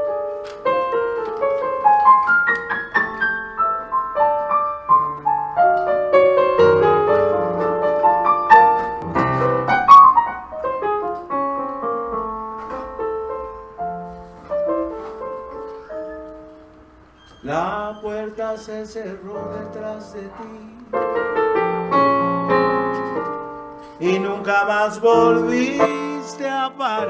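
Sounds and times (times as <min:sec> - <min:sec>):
jazz piano playing: 0:00.0 - 0:27.0.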